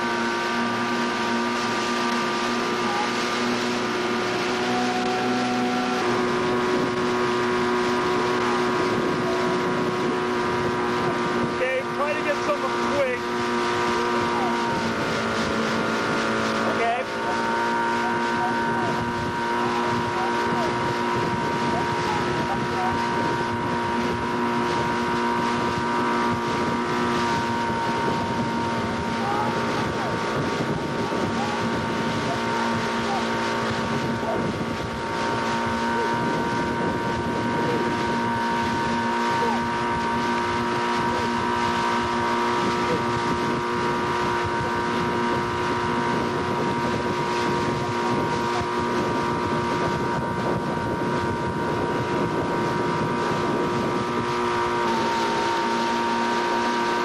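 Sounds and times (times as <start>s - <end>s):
motorboat engine drone: 0.0s - 57.0s
wind rushing over microphone: 0.0s - 57.0s.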